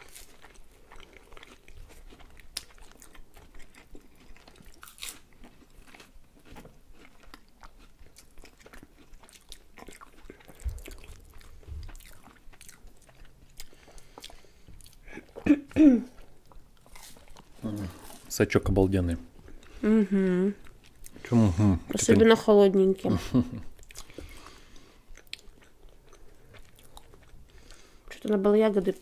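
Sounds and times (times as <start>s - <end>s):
chewing crisp pastry: 0.0s - 19.8s, 20.6s - 22.2s, 22.9s - 29.0s.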